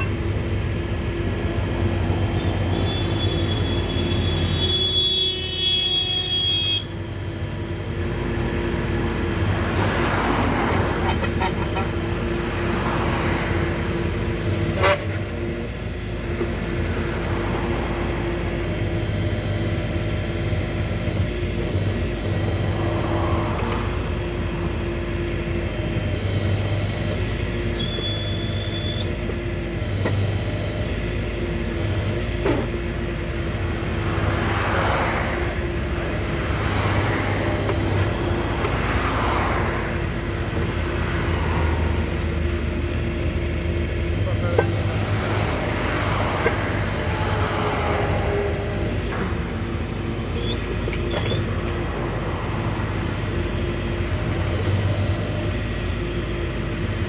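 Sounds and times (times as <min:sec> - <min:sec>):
drilling rig engine running: 0:00.0 - 0:57.0.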